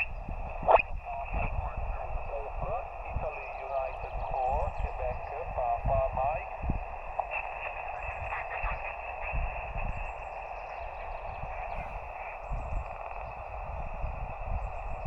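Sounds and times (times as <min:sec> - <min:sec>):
radio band noise hiss: 0:00.0 - 0:15.0.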